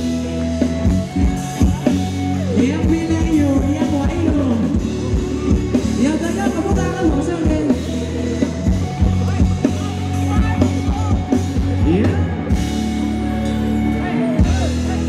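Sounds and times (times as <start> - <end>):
bass: 0.0 - 15.0
drum kit: 0.0 - 15.0.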